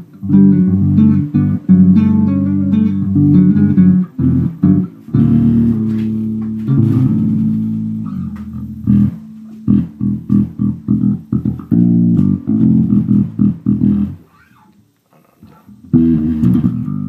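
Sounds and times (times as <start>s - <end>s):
electric bass played fingerstyle: 0.0s - 17.0s.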